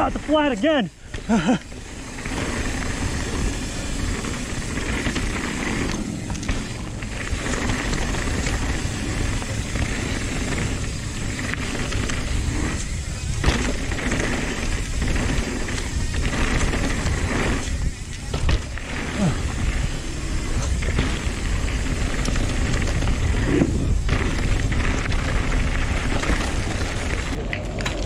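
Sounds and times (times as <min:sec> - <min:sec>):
bike tyres rolling on dirt: 0:00.0 - 0:28.0
wind rush on microphone: 0:02.0 - 0:28.0.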